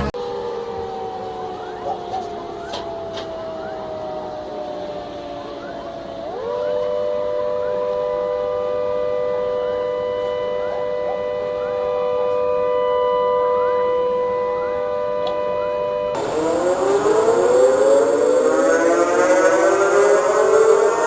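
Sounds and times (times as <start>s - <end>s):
siren steady chord: 0.0s - 21.0s
siren winding up: 0.0s - 21.0s.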